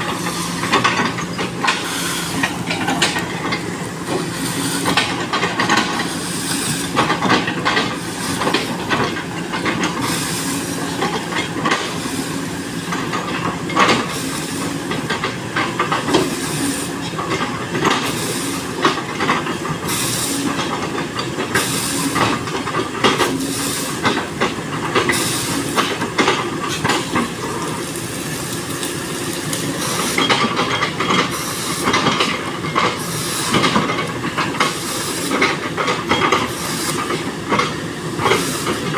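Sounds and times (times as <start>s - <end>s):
excavator running under load: 0.0s - 38.9s.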